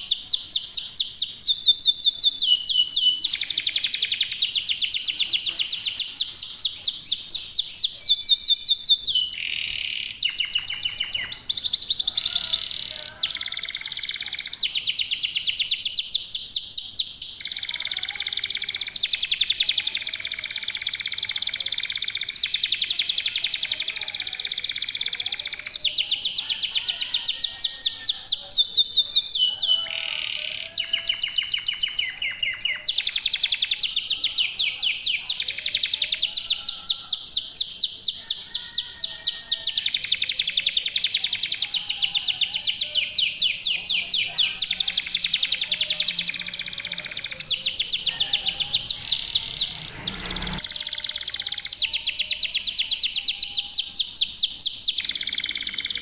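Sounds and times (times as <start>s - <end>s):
canaries singing trills: 0.0s - 56.0s.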